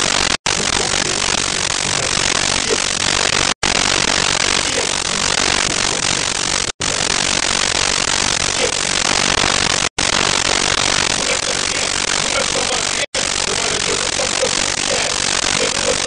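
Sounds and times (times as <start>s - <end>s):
loud static hiss: 0.0s - 16.0s.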